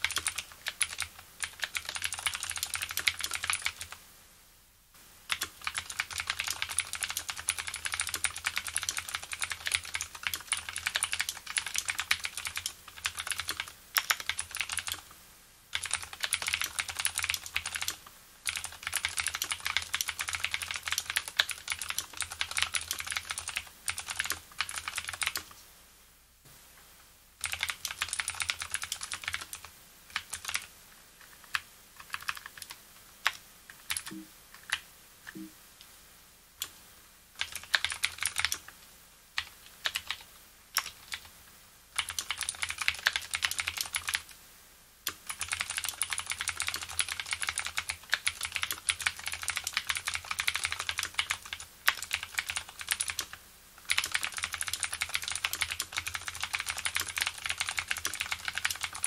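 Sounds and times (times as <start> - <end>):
clicky keyboard typing: 0.0 - 4.0, 5.3 - 25.6, 27.4 - 35.5, 37.4 - 38.8, 39.4 - 41.3, 42.0 - 44.4, 45.1 - 59.0.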